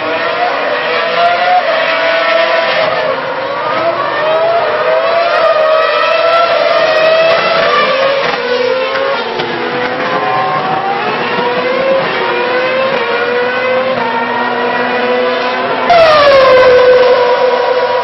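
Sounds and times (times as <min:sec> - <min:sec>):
racing car engines at high revs: 0:00.0 - 0:18.0
racing car passing close: 0:00.0 - 0:18.0.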